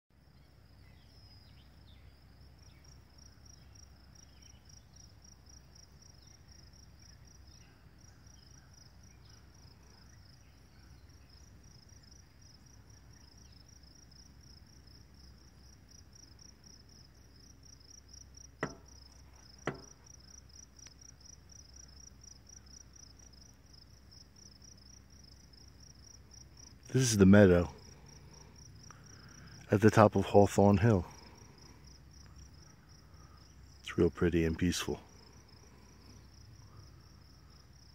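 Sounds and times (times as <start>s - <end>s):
crickets chirping: 0.1s - 37.9s.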